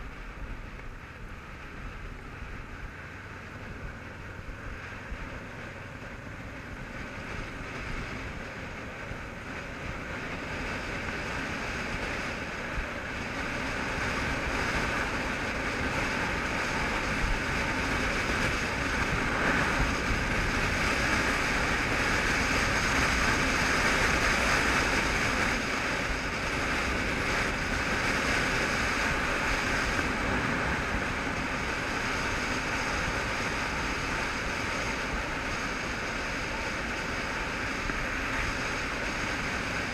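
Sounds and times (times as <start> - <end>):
motorcycle engine and tyre noise: 0.0 - 39.9
wind rushing over camera: 0.0 - 39.9.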